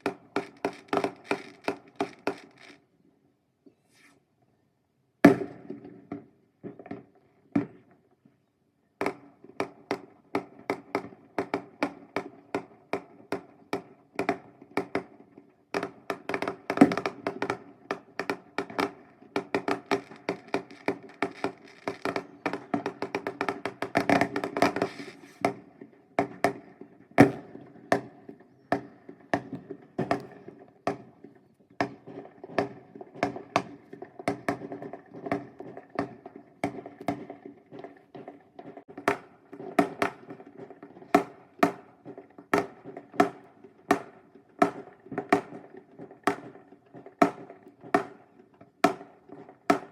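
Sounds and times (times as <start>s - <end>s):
fireworks bangs and crackles: 0.0s - 2.9s, 5.3s - 8.1s, 9.0s - 49.9s.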